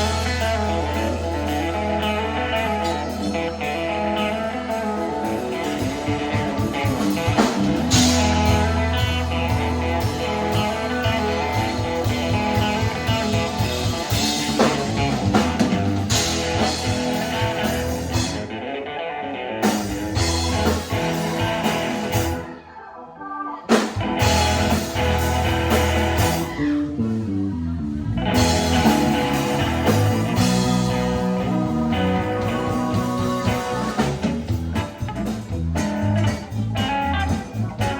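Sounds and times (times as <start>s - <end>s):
rock band playing: 0.0s - 22.6s, 23.7s - 37.9s.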